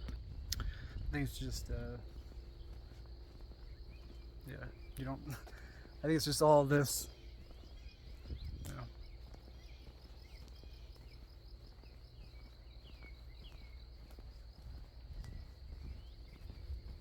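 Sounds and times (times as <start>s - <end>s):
insects calling in chorus: 0.6s - 17.0s.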